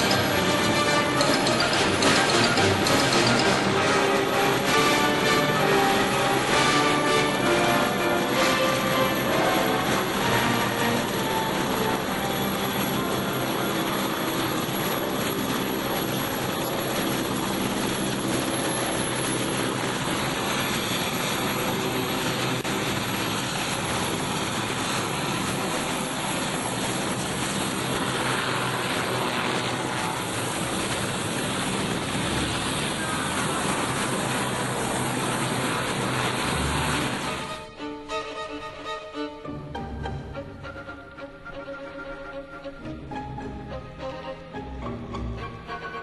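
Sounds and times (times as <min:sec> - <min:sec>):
helicopter turbines and rotor running: 0:00.0 - 0:46.0.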